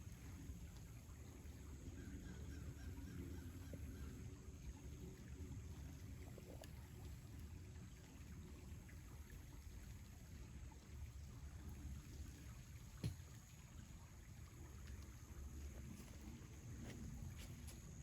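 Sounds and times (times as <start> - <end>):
small stream flowing: 0.0 - 18.0.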